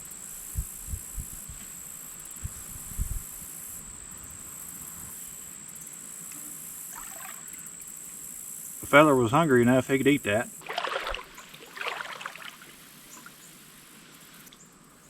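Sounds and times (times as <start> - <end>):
high-pitched drone of crickets: 0.0 - 15.0.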